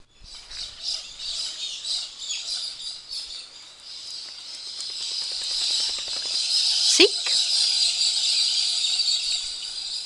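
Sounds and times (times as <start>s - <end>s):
birds chirping and calling: 0.1s - 10.0s.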